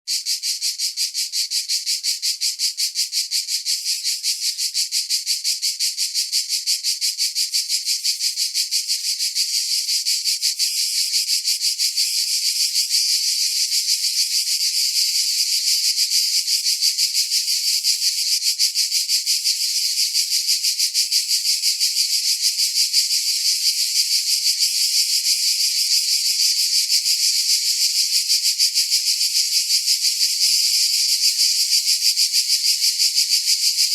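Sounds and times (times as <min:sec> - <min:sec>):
cicadas buzzing: 0:00.1 - 0:33.9.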